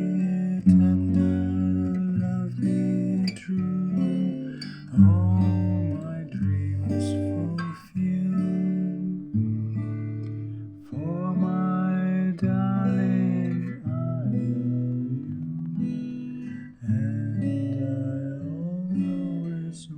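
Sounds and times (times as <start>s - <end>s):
acoustic guitar strumming chords: 0.0s - 19.9s.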